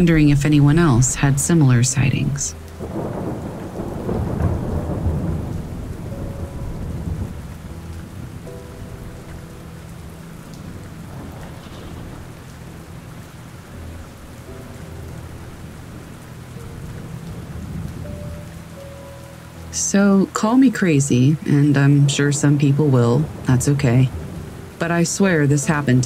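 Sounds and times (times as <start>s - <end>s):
low rumble of thunder: 0.0s - 19.1s, 20.9s - 26.0s
quiet ambient music: 0.0s - 26.0s
steady rain: 0.0s - 26.0s.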